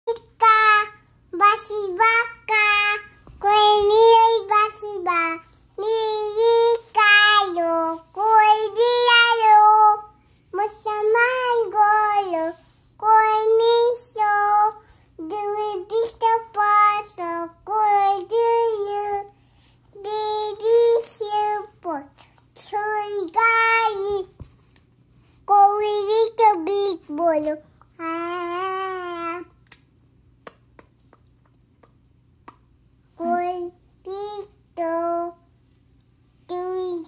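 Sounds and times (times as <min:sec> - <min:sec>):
small girl singing: 0:00.1 - 0:24.4, 0:25.5 - 0:29.8, 0:33.2 - 0:35.5, 0:36.5 - 0:37.0.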